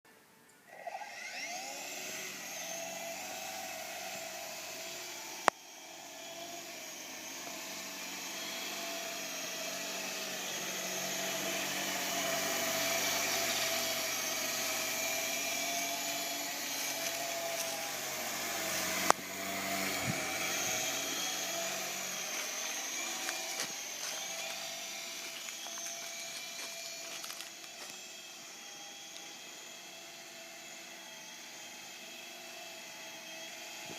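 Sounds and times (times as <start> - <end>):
model helicopter rotors whining: 0.7 - 33.9.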